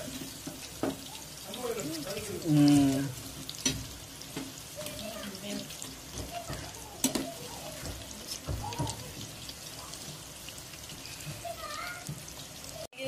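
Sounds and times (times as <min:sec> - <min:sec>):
deep-frying sizzle with crackles: 0:00.0 - 0:13.0.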